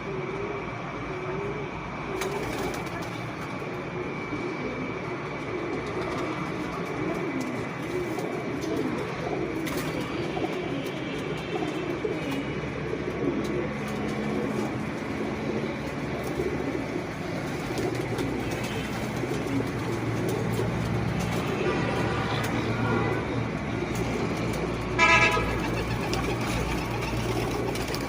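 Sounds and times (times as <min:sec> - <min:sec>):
pigeons cooing: 0:00.0 - 0:28.0
steady background hum: 0:00.0 - 0:28.0.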